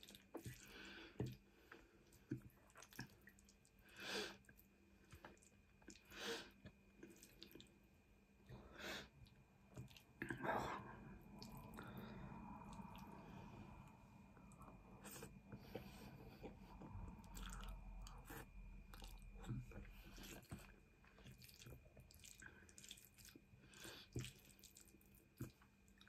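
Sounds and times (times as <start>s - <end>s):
chewing with wet mouth smacks: 0.0s - 3.8s, 4.4s - 7.9s, 9.3s - 11.9s, 14.4s - 26.0s.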